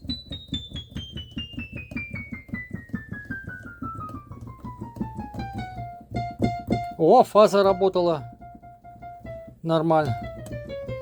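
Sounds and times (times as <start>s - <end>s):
descending piano notes: 0.0s - 11.0s.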